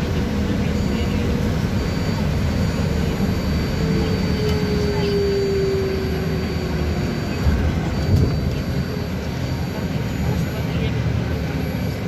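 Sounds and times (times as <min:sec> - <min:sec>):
thin high steady whine: 0:00.0 - 0:12.0
wheels and road rumble: 0:00.0 - 0:12.0
electric motor whine: 0:00.2 - 0:12.0.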